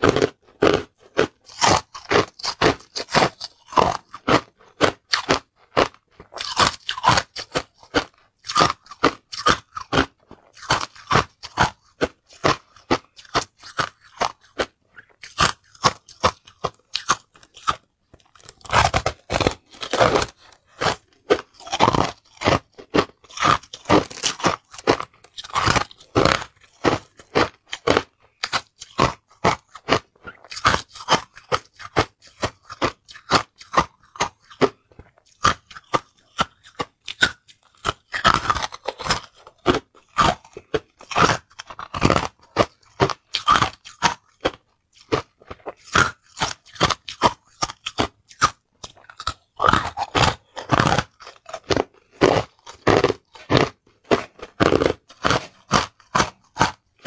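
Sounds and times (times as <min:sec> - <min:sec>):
person crunching ice: 0:00.0 - 0:57.0.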